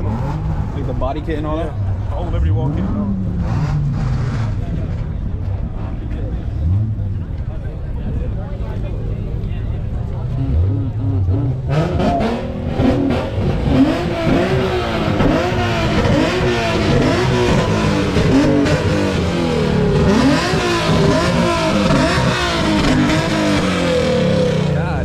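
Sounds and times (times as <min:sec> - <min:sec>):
car engine revving: 0:00.0 - 0:25.0
engine crackles: 0:00.0 - 0:25.0.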